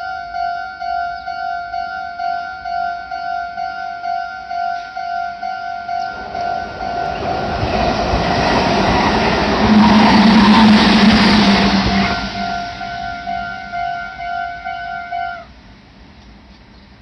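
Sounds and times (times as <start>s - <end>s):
crossing warning bell dinging: 0.0s - 15.8s
train passing: 0.0s - 17.0s.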